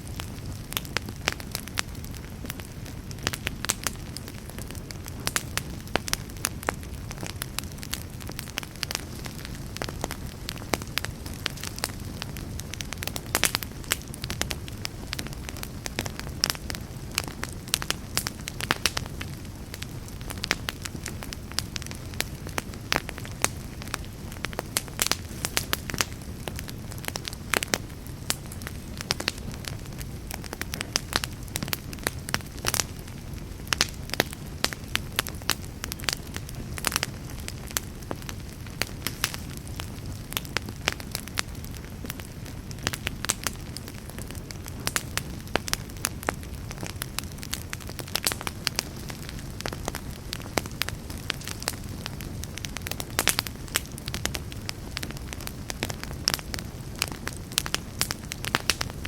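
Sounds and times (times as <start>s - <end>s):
fire crackling and popping: 0.0s - 59.0s
low rumble of burning: 0.0s - 59.0s.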